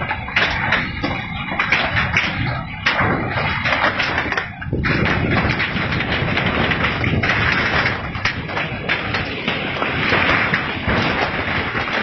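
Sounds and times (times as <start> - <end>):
earthquake rumble: 0.0 - 12.0
knocks and crashes: 0.0 - 12.0.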